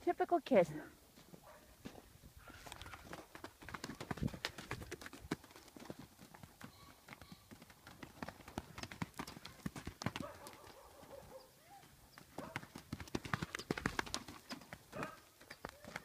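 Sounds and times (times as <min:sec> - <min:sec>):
hoofbeats on loose dirt: 0:01.2 - 0:16.0.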